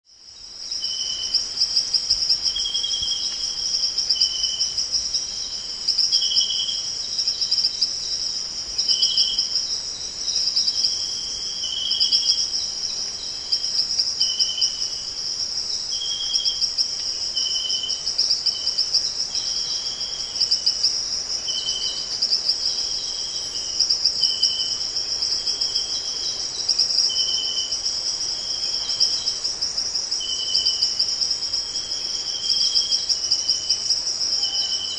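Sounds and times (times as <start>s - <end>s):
shrill insect chorus: 0.1s - 34.9s.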